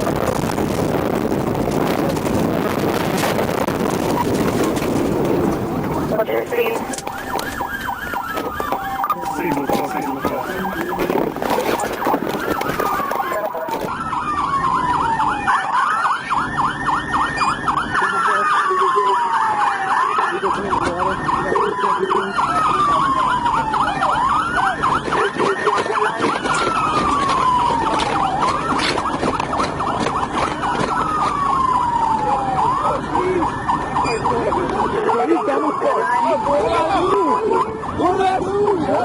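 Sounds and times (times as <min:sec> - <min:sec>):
police siren wailing: 0:00.0 - 0:39.0
warbling siren tone: 0:00.0 - 0:39.0.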